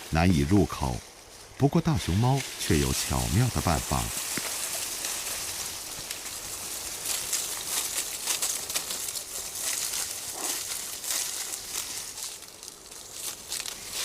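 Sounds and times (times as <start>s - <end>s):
leaves crackling and rustling: 0.0s - 14.0s
panda chewing bamboo leaves: 2.2s - 14.0s.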